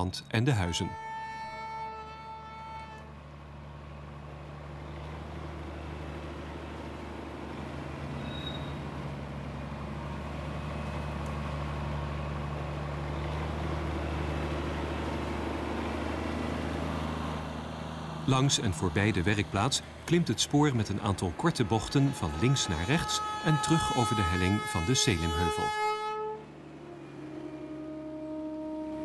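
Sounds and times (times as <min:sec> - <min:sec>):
locomotive diesel engine drone: 0:00.0 - 0:29.0
truck diesel engine: 0:00.0 - 0:29.0.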